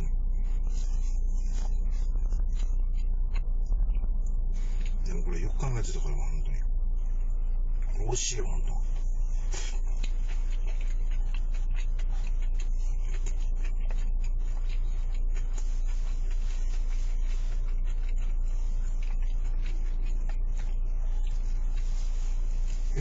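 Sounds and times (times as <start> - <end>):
person chewing food: 0.0 - 23.0
steady low hum: 0.0 - 23.0.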